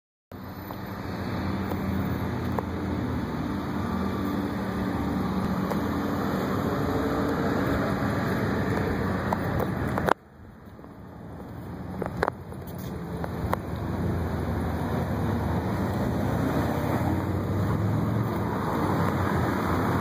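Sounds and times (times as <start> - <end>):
street traffic: 0.3 - 20.0.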